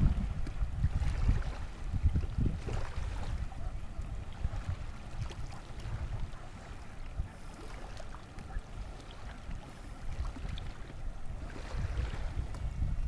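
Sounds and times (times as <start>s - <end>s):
water lapping: 0.0s - 13.0s
wind buffeting microphone: 0.0s - 13.0s.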